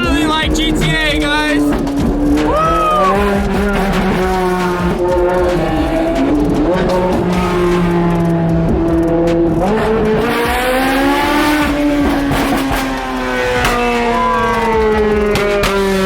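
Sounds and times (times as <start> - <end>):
car engines accelerating: 0.0 - 16.0.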